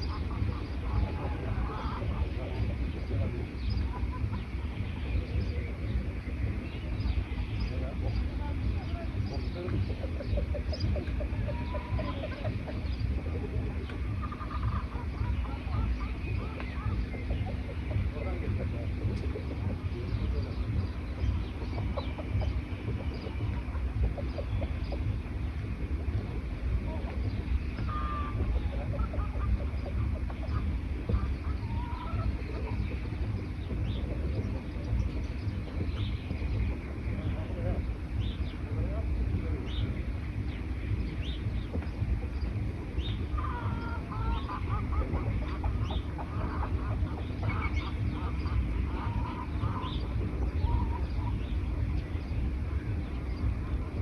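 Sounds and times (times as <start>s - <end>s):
songbirds chirping: 0.0s - 54.0s
steady low rumble: 0.0s - 54.0s.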